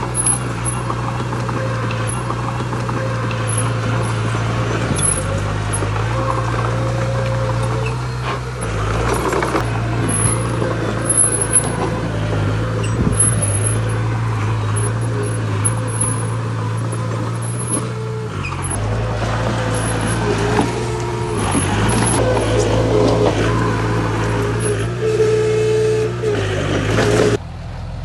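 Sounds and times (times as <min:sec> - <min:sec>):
heavy diesel machinery engine hum: 0:00.0 - 0:28.0.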